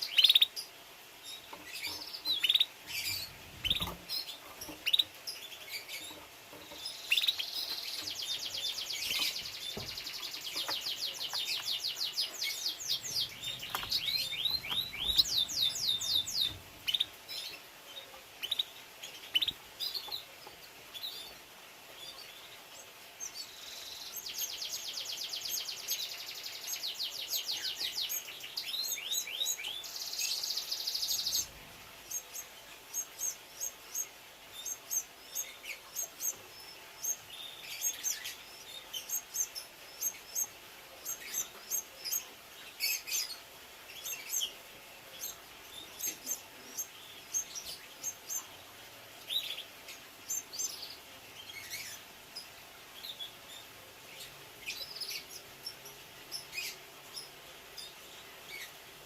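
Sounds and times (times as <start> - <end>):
canary singing trills: 0.0 - 21.4, 22.0 - 58.9.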